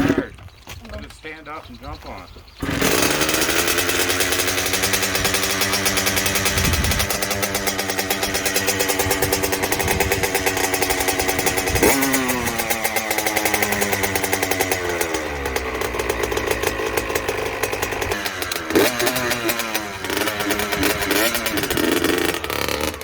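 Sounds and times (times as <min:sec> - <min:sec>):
two-stroke engine revving: 0:00.0 - 0:00.4, 0:02.5 - 0:23.0.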